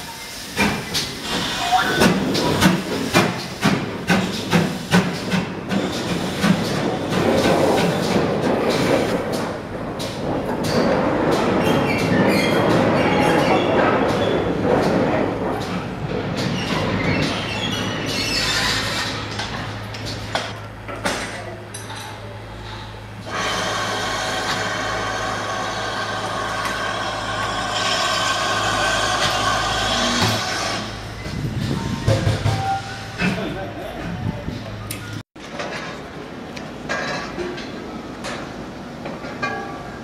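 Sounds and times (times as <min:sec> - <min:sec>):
steam train rumbling on rails: 0:00.0 - 0:20.9, 0:22.4 - 0:34.8.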